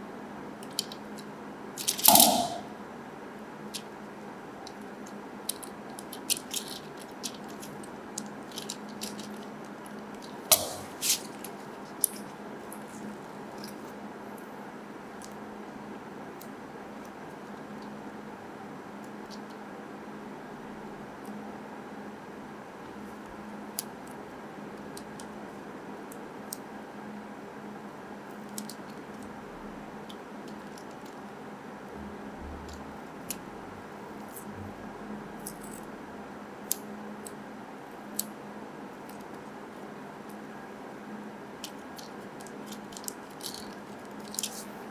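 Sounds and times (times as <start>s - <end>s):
steady hiss with low hum: 0.0s - 44.9s.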